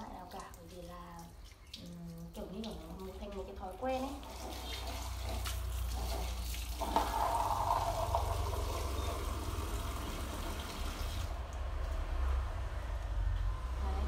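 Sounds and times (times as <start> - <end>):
water running from a tap: 0.0 - 11.4.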